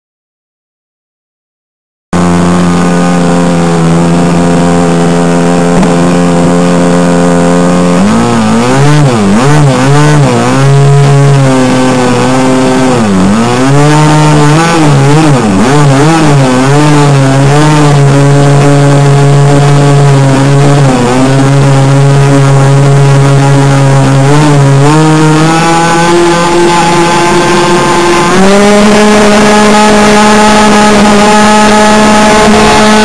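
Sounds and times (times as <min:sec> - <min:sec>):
model airplane engine: 0:02.2 - 0:33.0.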